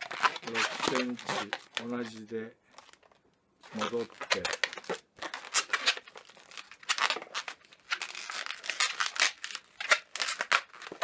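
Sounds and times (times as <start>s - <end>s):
balloon squeaking: 0.0s - 2.2s, 3.6s - 11.0s.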